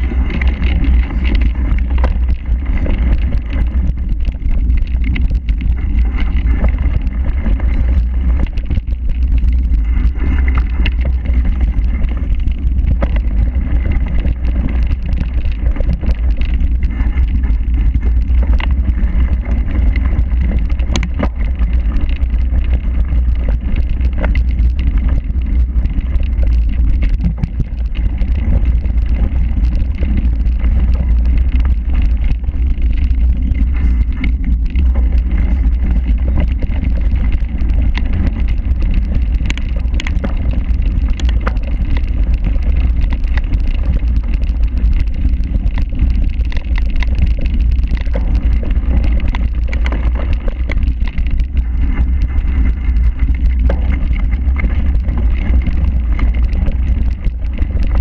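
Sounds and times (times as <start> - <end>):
bike knocking and rattling: 0.0 - 58.0
low rumble: 0.0 - 58.0
wind buffeting microphone: 0.0 - 58.0.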